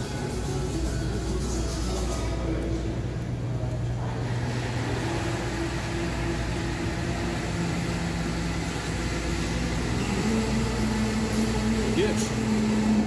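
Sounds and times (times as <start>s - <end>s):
ventilation and kitchen fans humming: 0.0s - 13.0s.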